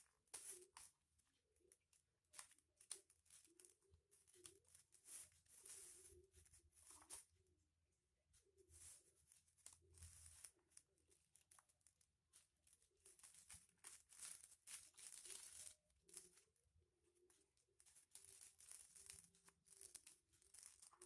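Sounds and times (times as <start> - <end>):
foil paper crinkling: 0.0 - 7.3, 8.4 - 21.0.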